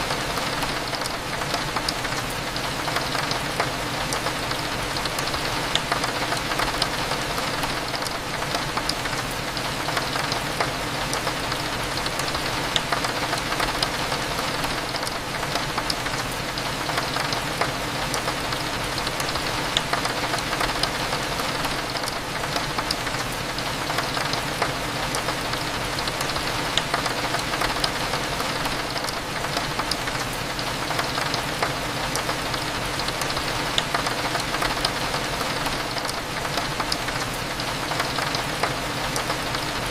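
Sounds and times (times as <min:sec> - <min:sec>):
raindrops ticking on window glass: 0:00.0 - 0:39.9
steady rain: 0:00.0 - 0:39.9.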